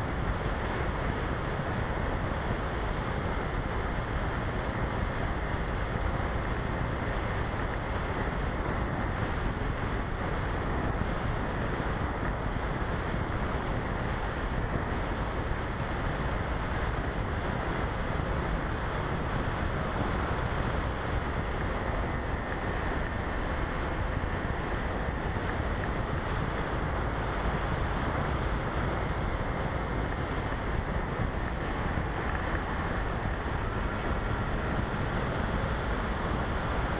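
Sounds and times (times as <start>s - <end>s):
airflow rushing over microphone: 0.0s - 36.9s.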